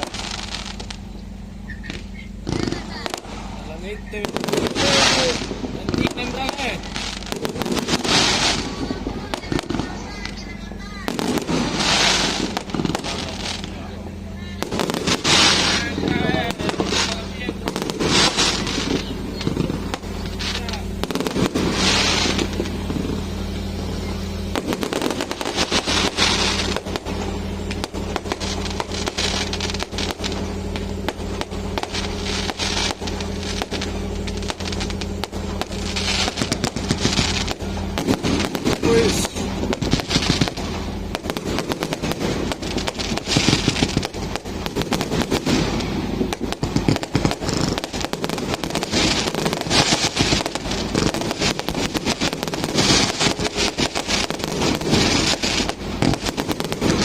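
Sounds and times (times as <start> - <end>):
firecrackers cracking: 0.0 - 57.0
steady low hum: 0.0 - 57.0.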